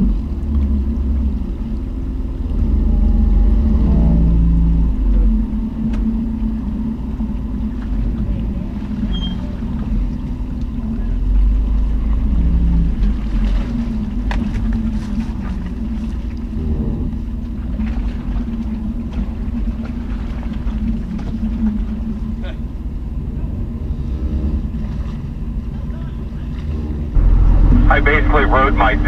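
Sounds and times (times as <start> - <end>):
car engine running at low revs: 0.0 - 29.0.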